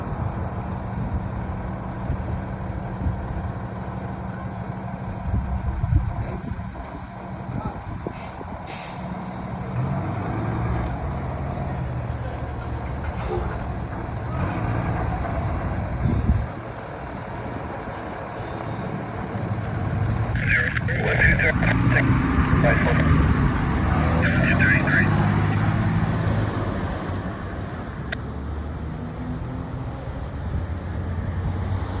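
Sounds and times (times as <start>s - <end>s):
diesel engine rumbling: 0.0s - 32.0s
road and wind noise: 0.0s - 32.0s.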